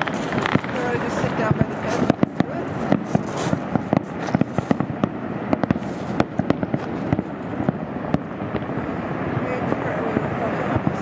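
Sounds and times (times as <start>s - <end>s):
continuous rumble: 0.0s - 11.0s
fireworks bangs: 0.0s - 11.0s.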